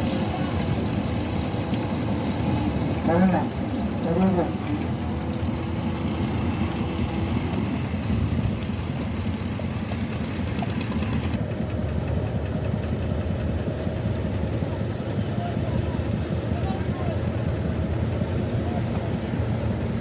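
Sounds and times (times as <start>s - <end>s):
diesel boat engine throbbing: 0.0s - 20.0s.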